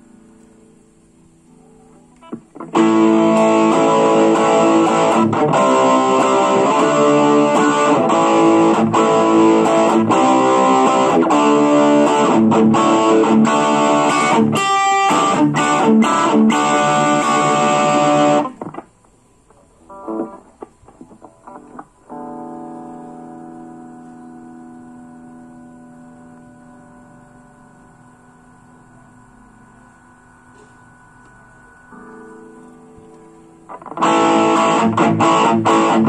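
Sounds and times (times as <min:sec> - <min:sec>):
electric guitar notes and chords: 0:02.1 - 0:19.0, 0:19.8 - 0:36.0.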